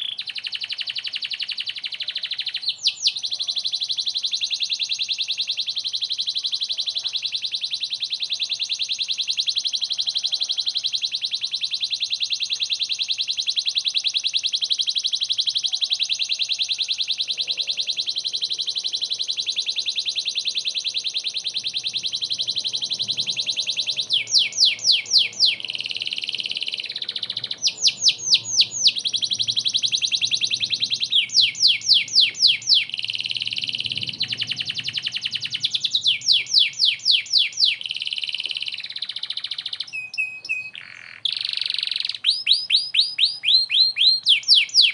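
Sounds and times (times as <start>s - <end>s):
canary singing: 0.0s - 44.9s.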